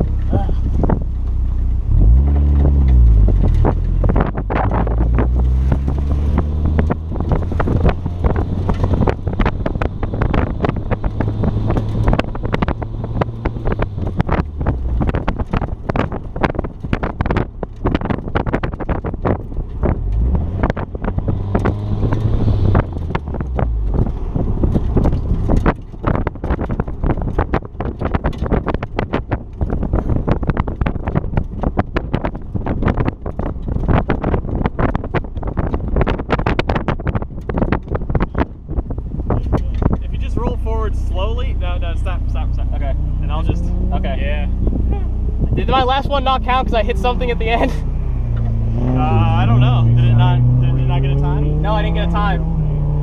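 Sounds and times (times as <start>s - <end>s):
car engine revving: 0.0s - 53.0s
wind buffeting microphone: 0.0s - 53.0s.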